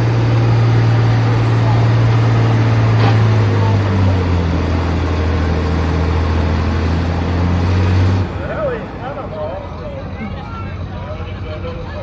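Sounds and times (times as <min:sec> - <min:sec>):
tractor engine running: 0:00.0 - 0:09.8.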